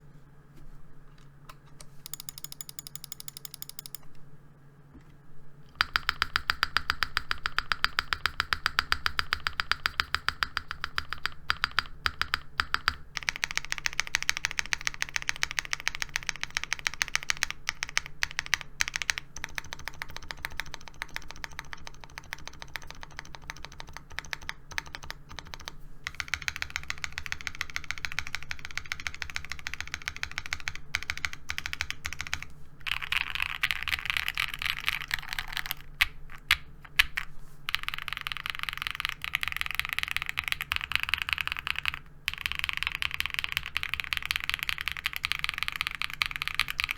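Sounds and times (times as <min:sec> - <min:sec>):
rapid keyboard typing: 0:02.0 - 0:04.0, 0:05.8 - 0:46.9.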